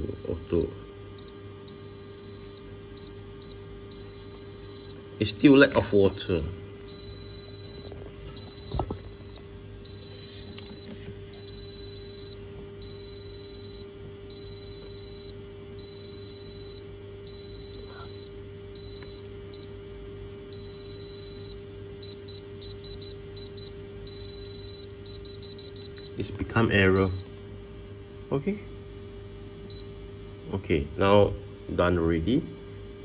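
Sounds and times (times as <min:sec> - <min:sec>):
alarm beeping: 0:00.0 - 0:19.8, 0:20.6 - 0:27.3
faint steady hum: 0:00.0 - 0:33.0.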